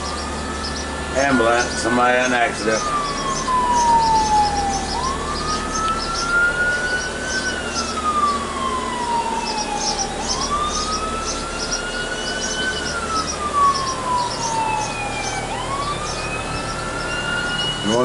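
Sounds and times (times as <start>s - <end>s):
ambulance siren wailing: 0.0s - 18.0s.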